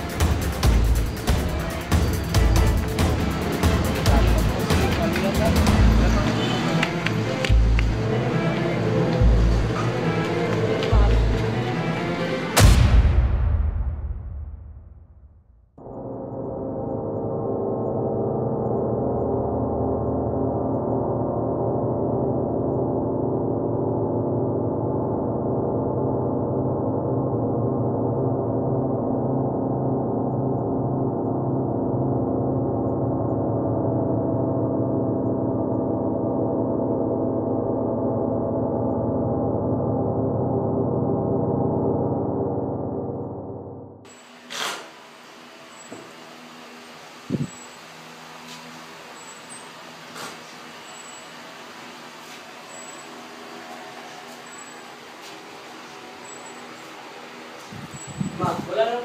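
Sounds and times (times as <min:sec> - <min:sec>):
dark droning score: 0:00.0 - 0:14.7, 0:15.8 - 0:58.2.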